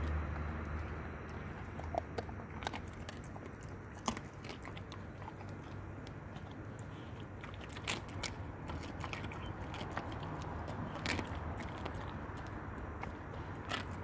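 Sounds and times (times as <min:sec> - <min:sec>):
bone crunching: 0:00.0 - 0:14.0
dog chewing bones: 0:00.0 - 0:14.0.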